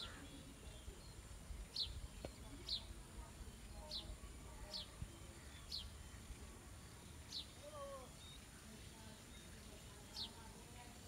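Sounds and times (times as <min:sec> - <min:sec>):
bird calling faintly: 0:00.0 - 0:10.5.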